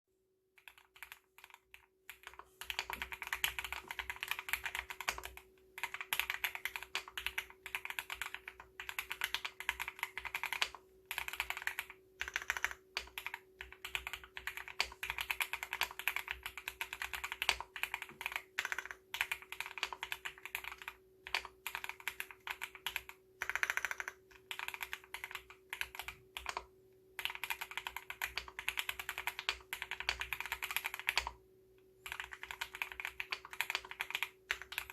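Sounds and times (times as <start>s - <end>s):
mechanical keyboard typing: 0.6s - 31.4s, 32.0s - 34.9s.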